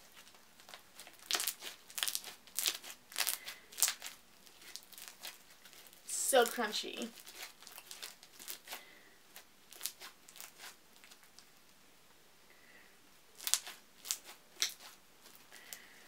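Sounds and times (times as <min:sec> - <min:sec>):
slime crackling and popping: 0:00.0 - 0:11.5, 0:13.4 - 0:15.9.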